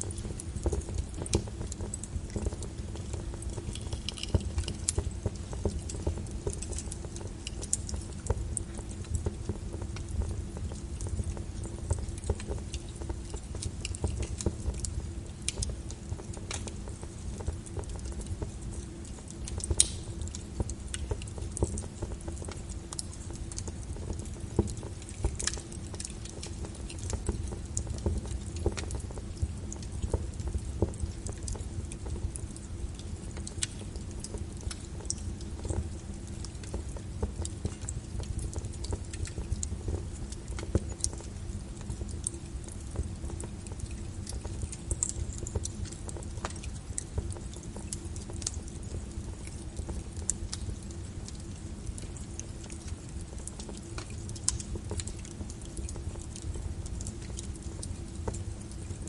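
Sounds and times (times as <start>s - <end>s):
low steady rumble: 0.0s - 58.7s
wood fire crackling and popping: 0.0s - 59.0s.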